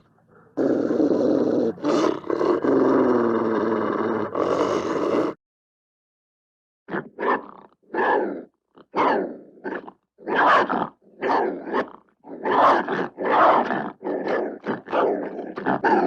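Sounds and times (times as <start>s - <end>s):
wolves growling and snarling: 0.0s - 5.4s, 6.9s - 16.0s.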